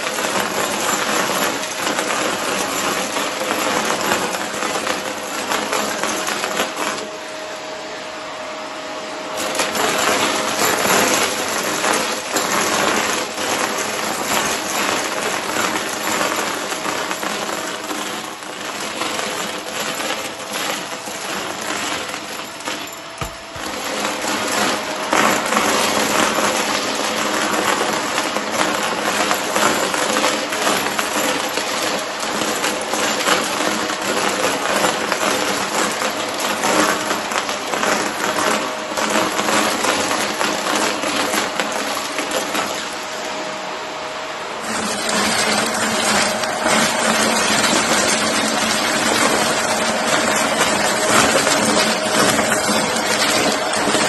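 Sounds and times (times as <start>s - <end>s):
cardboard pieces rattling in vacuum: 0.0s - 7.5s, 9.3s - 43.8s, 44.6s - 54.0s
vacuum cleaner running: 0.0s - 54.0s.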